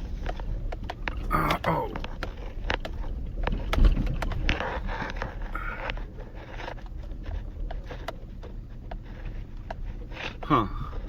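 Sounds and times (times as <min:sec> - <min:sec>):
road rumble in truck cab: 0:00.0 - 0:11.0.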